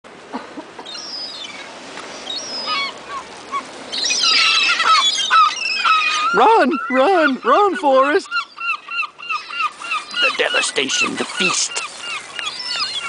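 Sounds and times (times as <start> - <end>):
seagulls squawking: 0.6 - 13.0.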